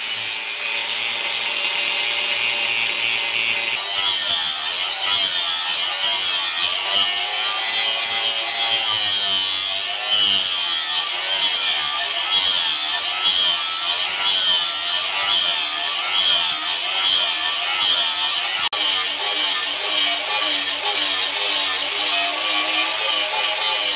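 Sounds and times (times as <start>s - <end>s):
angle grinder grinding steel: 0.0s - 23.9s.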